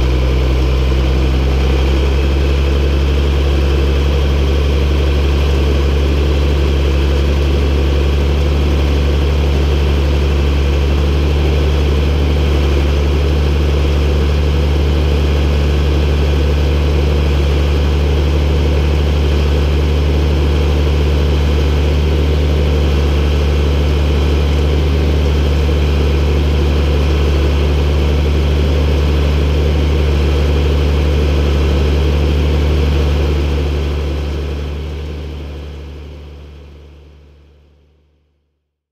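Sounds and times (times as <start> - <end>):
tractor diesel engine running: 0.0 - 37.8.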